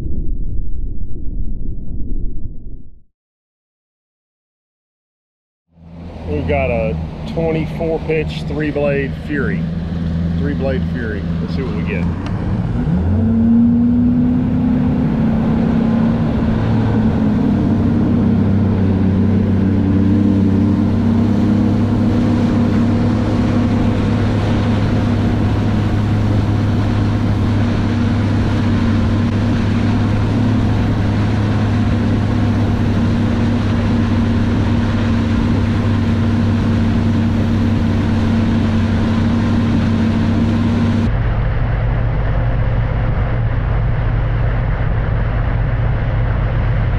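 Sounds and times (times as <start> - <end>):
outboard motor running: 5.8 - 46.9
wind and water noise: 5.8 - 46.9.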